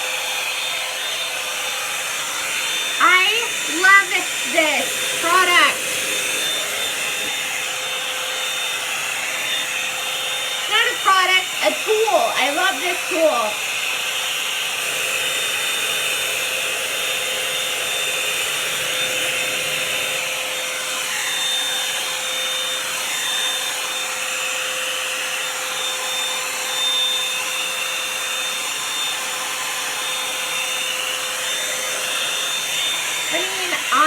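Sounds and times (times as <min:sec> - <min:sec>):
hair dryer blowing air: 0:00.0 - 0:34.0
high motor whine: 0:00.1 - 0:24.3, 0:28.4 - 0:34.0.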